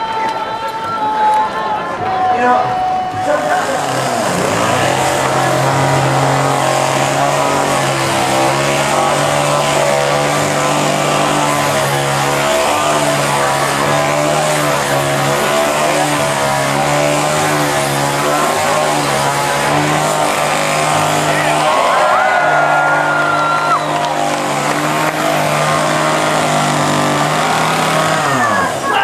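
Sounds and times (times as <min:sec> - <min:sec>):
chainsaw engine running: 0:03.2 - 0:29.0.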